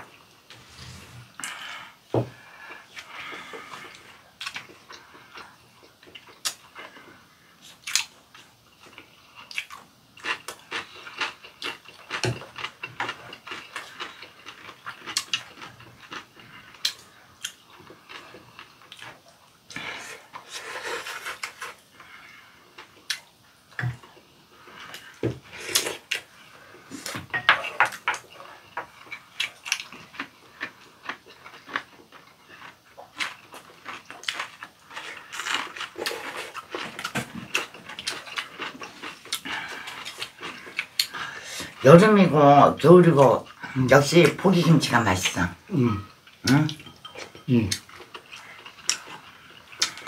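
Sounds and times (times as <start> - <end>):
chewing: 2.3 - 41.8, 46.0 - 50.0.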